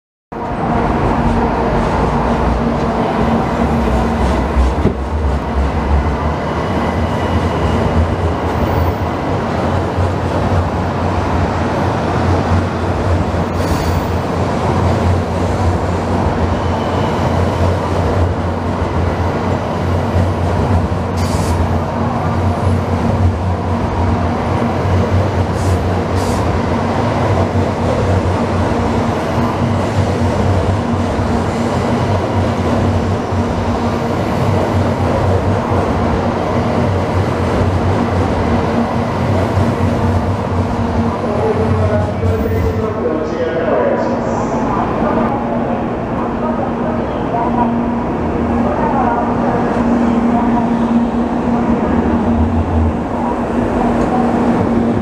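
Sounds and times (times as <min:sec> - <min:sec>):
train rumbling and humming: 0:00.3 - 0:55.0.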